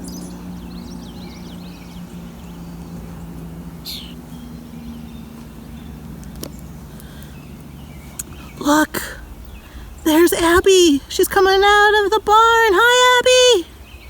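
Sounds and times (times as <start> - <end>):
outdoor background rumble: 0.0 - 14.0
small birds chirping: 0.0 - 14.0
steady low hum: 0.0 - 14.0.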